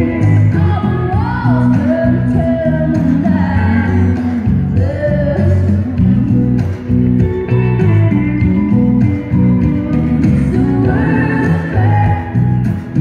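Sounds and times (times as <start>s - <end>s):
song with band over sound system: 0.0s - 13.0s.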